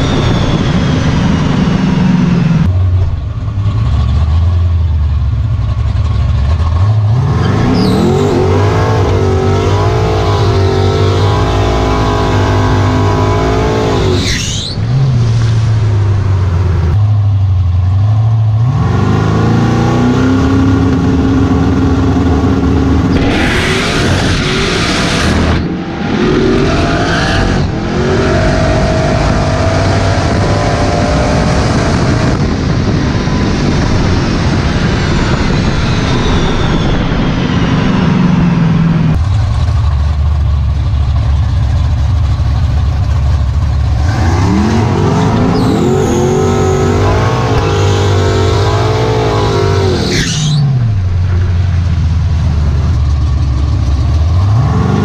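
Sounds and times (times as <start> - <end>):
car engine accelerating: 0.0 - 55.0
wind and road rush: 0.0 - 55.0.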